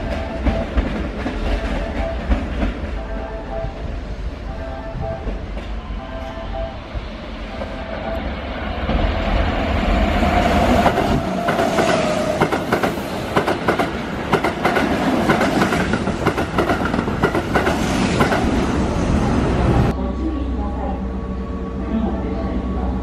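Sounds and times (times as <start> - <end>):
electric train whine: 0.0 - 23.0.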